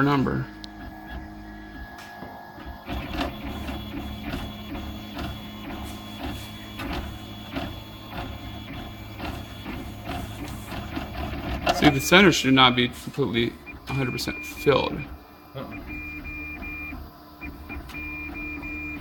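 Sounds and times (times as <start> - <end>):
steady hum: 0.0 - 18.2
printer stepper motors whirring: 0.0 - 19.0.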